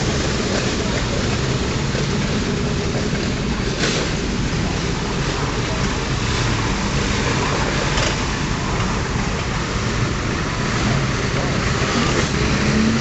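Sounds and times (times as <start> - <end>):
racing car engines rumbling: 0.0 - 13.0.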